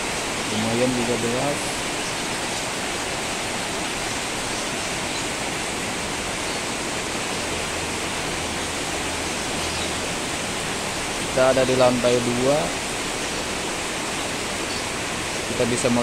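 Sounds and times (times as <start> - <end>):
heavy rain on roofs and trees: 0.0 - 16.0.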